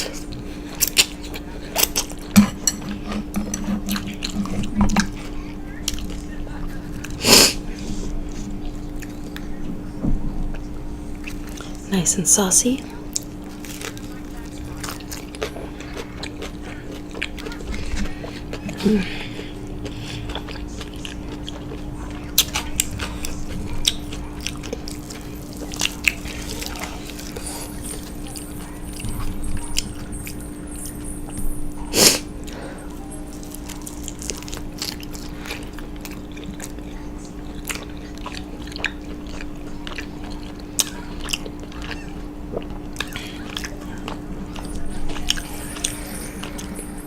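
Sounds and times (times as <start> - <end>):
chewing and crunching food: 0.0 - 12.0, 12.7 - 47.0
faint hum: 0.0 - 47.0.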